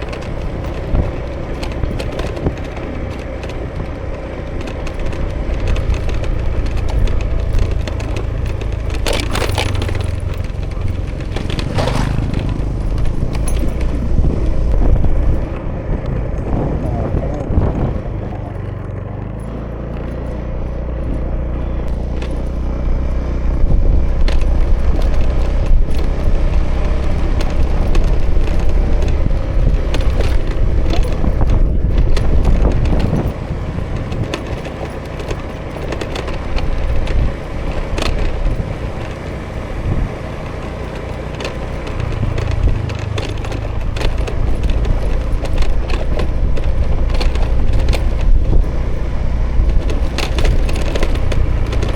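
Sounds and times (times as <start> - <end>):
road noise: 0.0 - 51.9
scooter engine running: 0.0 - 51.9
short clicks and rattles: 0.0 - 51.9.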